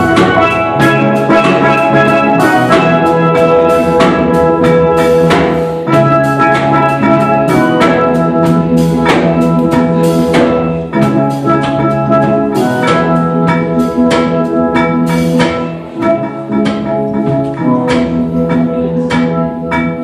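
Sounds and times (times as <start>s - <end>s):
bass steel pan notes: 0.0s - 20.0s
lead steel pan notes: 0.0s - 20.0s.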